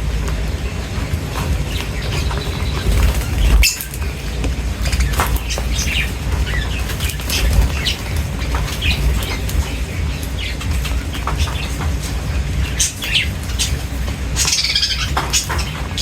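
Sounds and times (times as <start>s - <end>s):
small birds chirping: 0.0s - 16.0s
wings fluttering: 0.0s - 16.0s.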